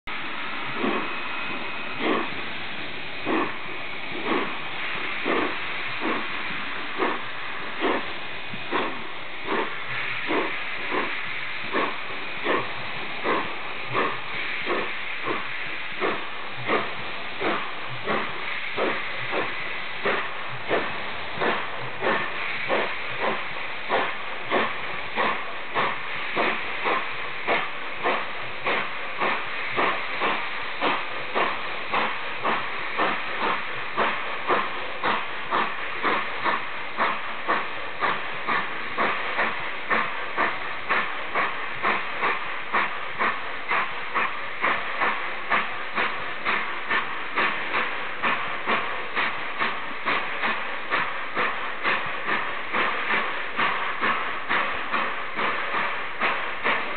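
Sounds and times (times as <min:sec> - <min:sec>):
steam hissing: 0:00.1 - 0:56.9
steam locomotive exhaust chuffs: 0:00.1 - 0:56.9.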